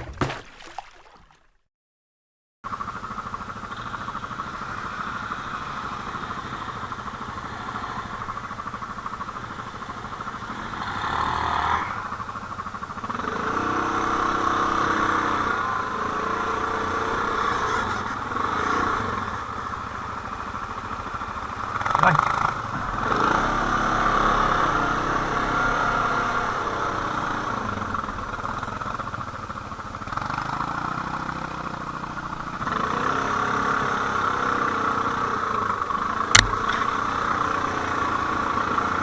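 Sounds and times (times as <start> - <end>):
lower engine note: 2.7 - 39.0
quad bike engines running: 2.7 - 39.0.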